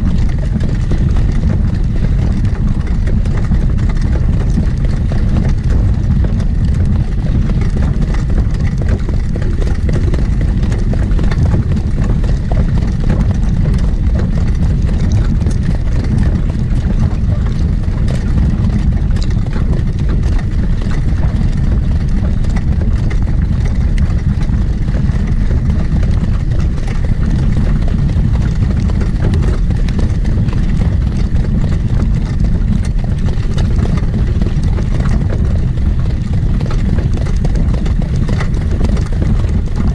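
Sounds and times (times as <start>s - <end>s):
horse hoofbeats: 0.0s - 39.9s
wind rumble on microphone: 0.0s - 39.9s.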